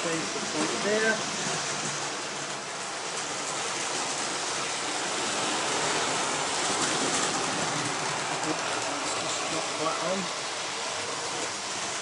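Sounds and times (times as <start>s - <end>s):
model trains whirring on track: 0.0s - 12.0s.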